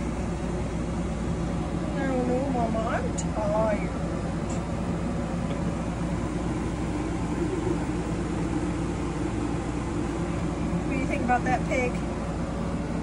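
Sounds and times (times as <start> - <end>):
air conditioner running: 0.0 - 13.0.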